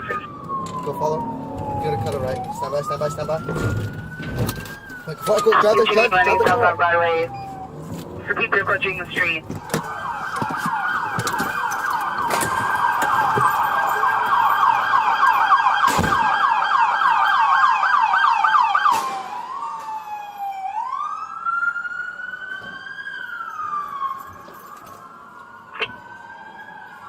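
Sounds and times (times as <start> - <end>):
police siren yelping and wailing: 0.0 - 27.0.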